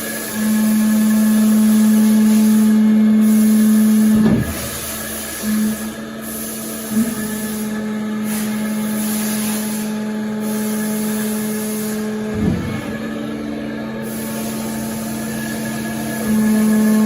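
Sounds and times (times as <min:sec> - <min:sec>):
press machine motor humming: 0:00.0 - 0:17.0.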